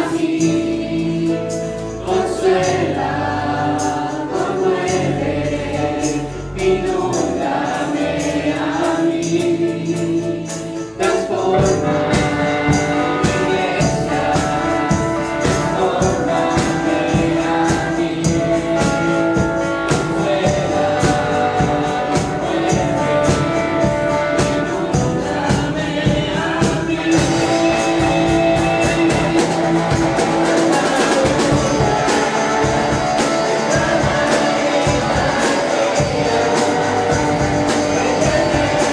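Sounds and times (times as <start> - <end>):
choir singing: 0.0 - 38.9
church band playing: 0.0 - 38.9
driving percussion beat: 0.0 - 38.9
tambourine: 0.0 - 38.9.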